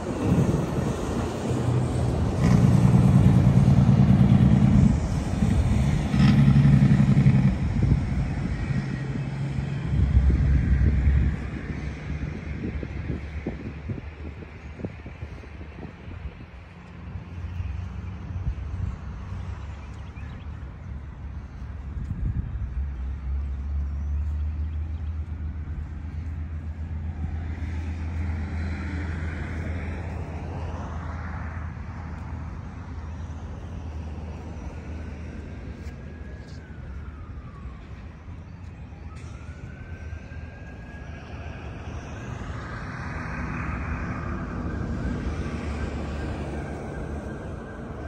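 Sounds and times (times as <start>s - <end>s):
low traffic rumble: 0.0s - 48.0s
vehicles passing: 0.0s - 48.0s.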